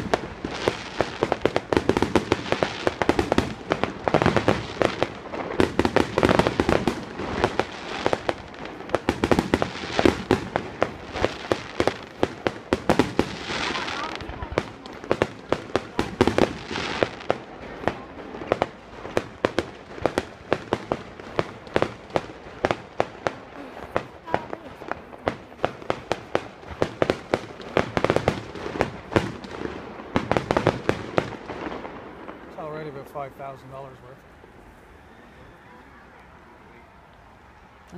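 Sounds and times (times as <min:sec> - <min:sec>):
firework shells bursting: 0:00.0 - 0:32.6.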